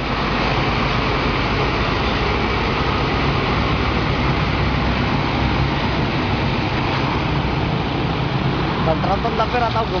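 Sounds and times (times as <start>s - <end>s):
coach diesel engine running: 0.0s - 10.0s
road noise: 0.0s - 10.0s.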